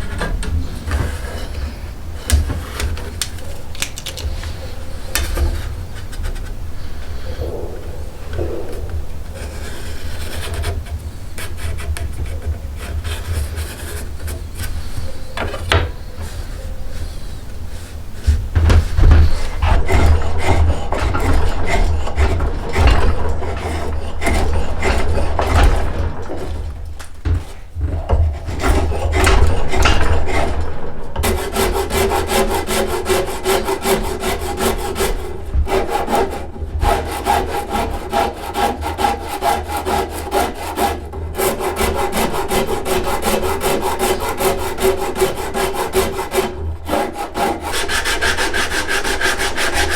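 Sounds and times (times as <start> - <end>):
hand tool scraping wood: 0.0 - 49.9.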